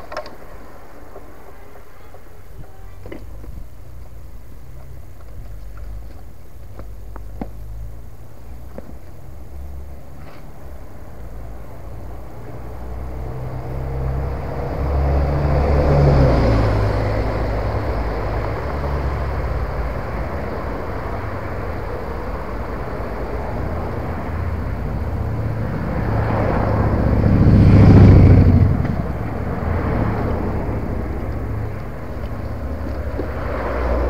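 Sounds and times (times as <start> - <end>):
road traffic passing: 0.0 - 34.0
bus driving by: 3.6 - 34.0.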